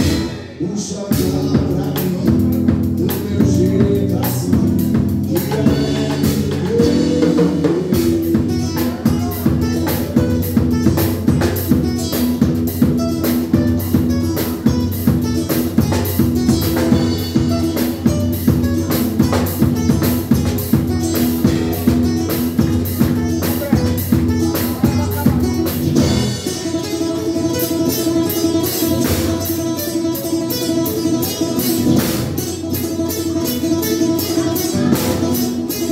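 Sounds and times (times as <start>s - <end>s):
drum kit steady beat: 0.0s - 35.9s
guitar playing: 0.0s - 35.9s.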